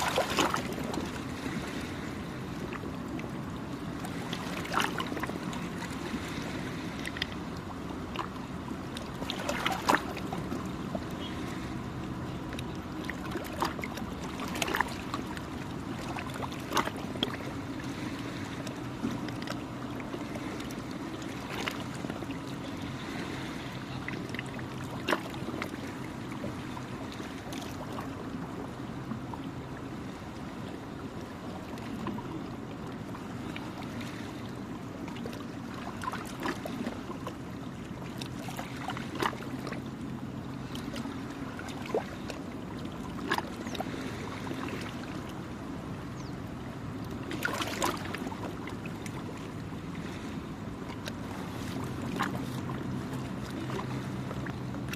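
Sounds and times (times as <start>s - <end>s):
low engine drone: 0.0s - 54.9s
small waves lapping at shore: 0.0s - 54.9s.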